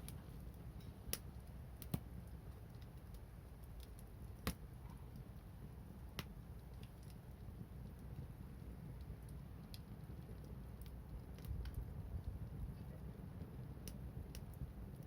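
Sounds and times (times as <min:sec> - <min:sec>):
wood bonfire crackling: 0:00.0 - 0:15.0.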